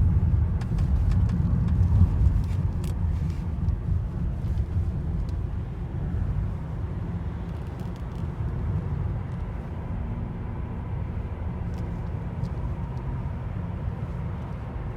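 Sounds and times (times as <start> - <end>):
car low rumble: 0.0 - 14.9.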